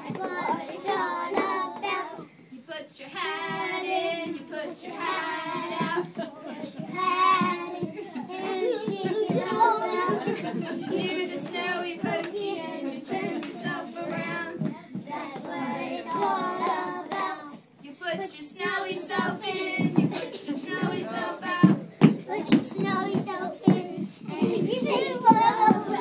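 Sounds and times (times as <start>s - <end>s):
children singing: 0.0s - 2.3s, 3.1s - 17.6s, 18.2s - 26.0s.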